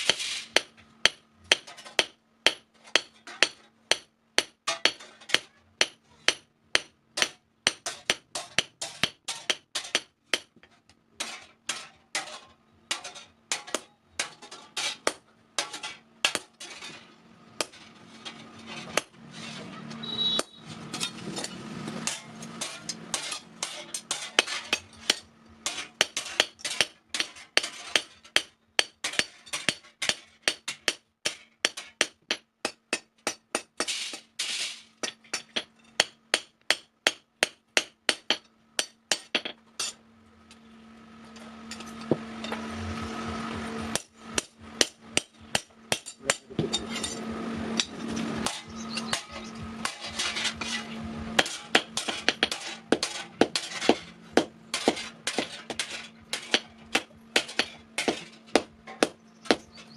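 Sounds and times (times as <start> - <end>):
hammer striking metal on anvil: 0.1 - 17.0, 18.9 - 19.1, 20.0 - 34.3, 35.0 - 40.0, 43.6 - 59.9.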